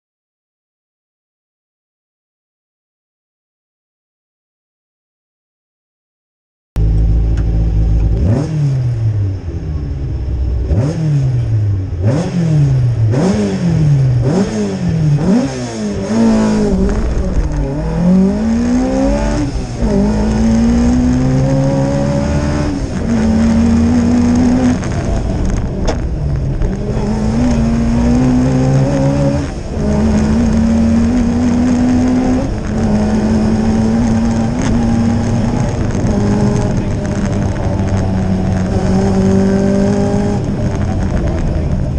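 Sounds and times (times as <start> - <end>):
rally car engine revving: 6.8 - 41.9.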